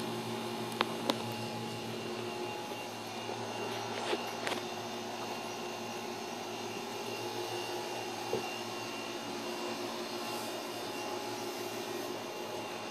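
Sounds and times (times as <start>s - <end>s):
mechanical whir with low hum: 0.0s - 12.9s.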